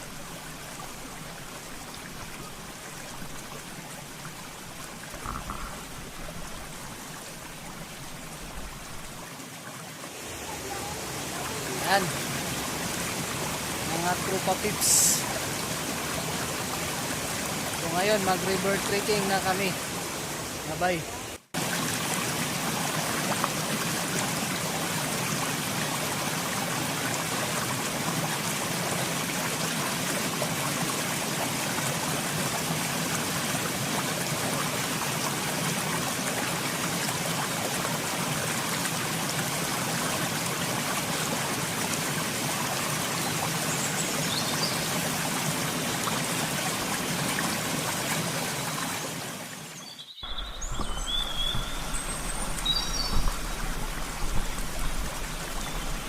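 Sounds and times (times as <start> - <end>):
rushing stream water: 0.0 - 56.0.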